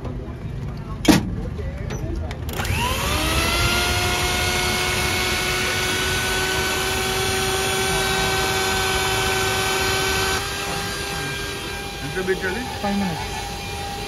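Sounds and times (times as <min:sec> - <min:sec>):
stand mixer motor whining: 0:02.5 - 0:14.0.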